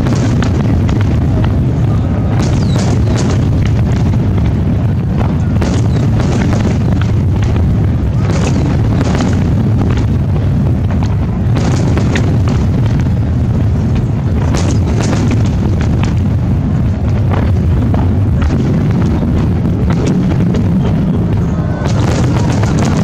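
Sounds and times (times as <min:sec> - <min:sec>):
firework cracks: 0:00.0 - 0:23.0
low booming rumble: 0:00.0 - 0:23.0.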